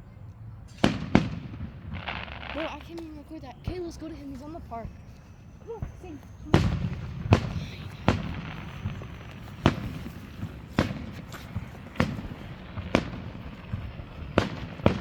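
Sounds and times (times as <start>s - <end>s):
continuous low rumble: 0.0s - 15.0s
fireworks bangs: 0.7s - 15.0s.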